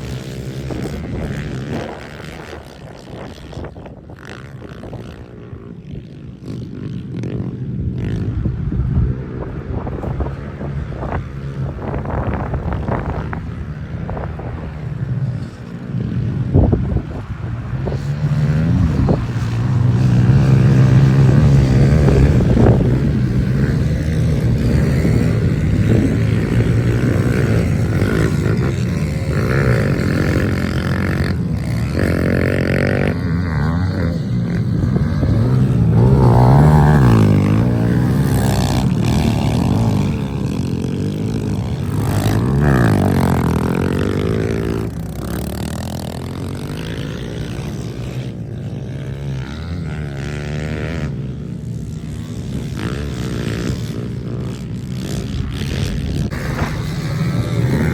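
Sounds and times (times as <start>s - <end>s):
pit bike engines revving: 0.0s - 57.9s.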